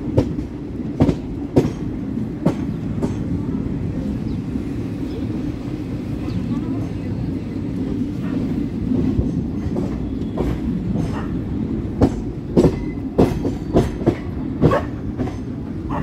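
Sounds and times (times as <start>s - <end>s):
wheels clacking over rail joints: 0.0s - 3.9s, 6.1s - 16.0s
train rumbling on track: 0.0s - 16.0s.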